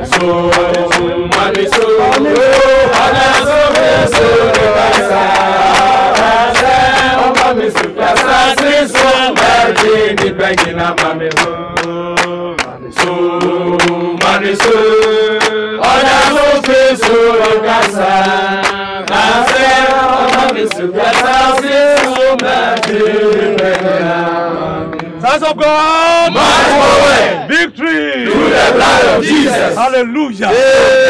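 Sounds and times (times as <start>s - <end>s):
rhythmic hand clapping: 0.0s - 25.3s
crowd singing: 0.0s - 31.0s.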